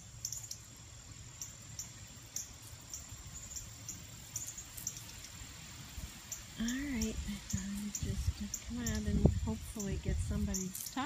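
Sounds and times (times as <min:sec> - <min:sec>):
faint high insect drone: 0:00.0 - 0:11.0.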